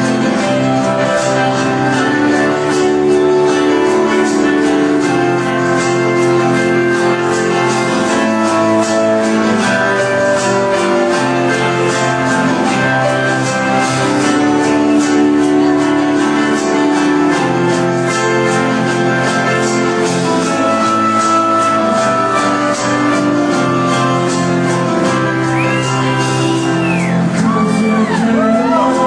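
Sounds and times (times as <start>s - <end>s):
electric guitar playing: 0.0s - 29.0s.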